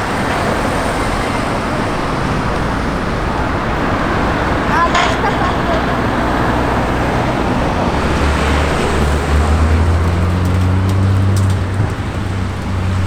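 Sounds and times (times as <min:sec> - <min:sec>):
car engine idling: 0:00.0 - 0:13.0
traffic noise: 0:00.0 - 0:13.0.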